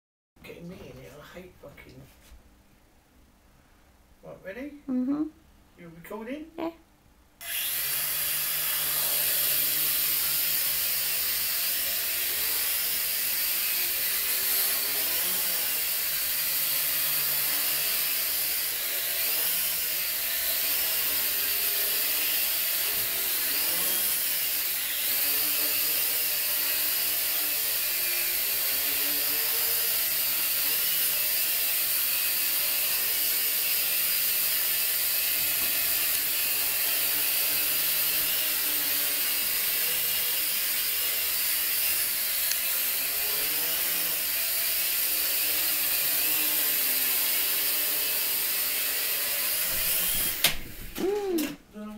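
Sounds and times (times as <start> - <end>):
toy drone motors whining: 7.4 - 51.5.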